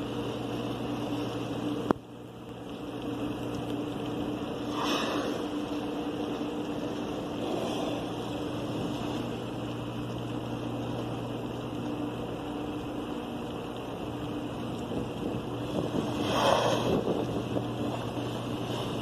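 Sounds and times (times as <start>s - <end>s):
sea noise: 0.0s - 19.0s
ship engines humming: 0.0s - 19.0s
wind: 0.0s - 19.0s.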